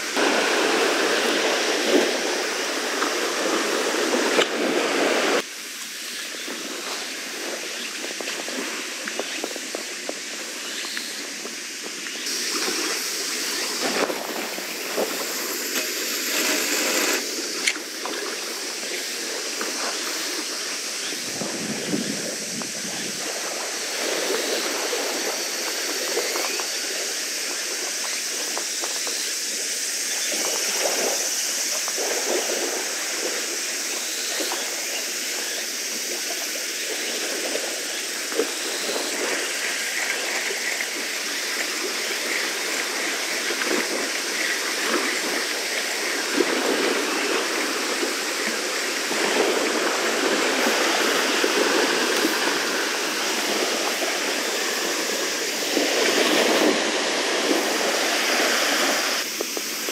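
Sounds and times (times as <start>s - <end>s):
water rushing along shore: 0.0s - 59.9s.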